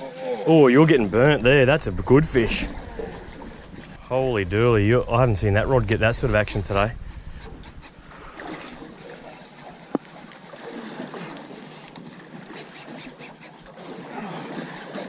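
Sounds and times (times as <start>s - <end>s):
water moving around boat: 0.0s - 15.0s
wind: 0.0s - 15.0s.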